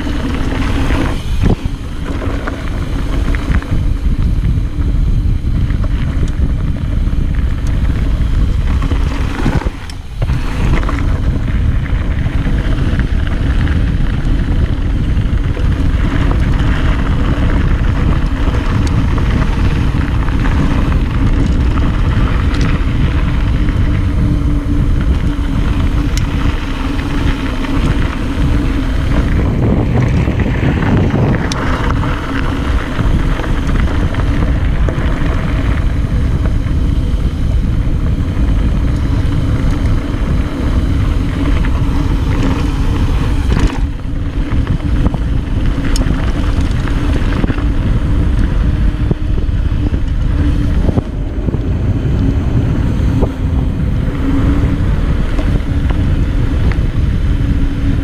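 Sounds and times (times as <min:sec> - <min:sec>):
bike tyres rolling on dirt: 0:00.0 - 0:58.0
wind buffeting microphone: 0:00.0 - 0:58.0.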